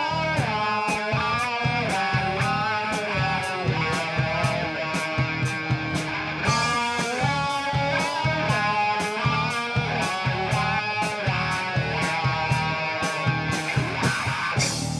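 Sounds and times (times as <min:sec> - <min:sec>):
electric guitar bending notes: 0:00.0 - 0:14.9
steady drum beat: 0:00.0 - 0:14.9.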